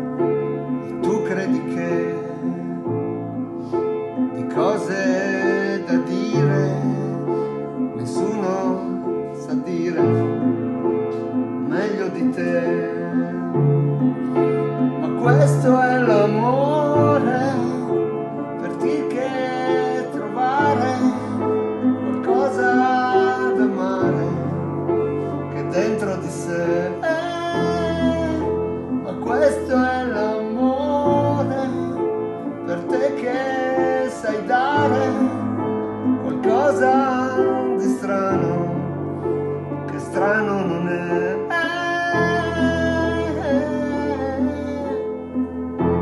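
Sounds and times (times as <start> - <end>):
upright piano chords: 0.0 - 46.0
man singing: 0.8 - 3.1, 4.3 - 10.9, 11.6 - 45.5.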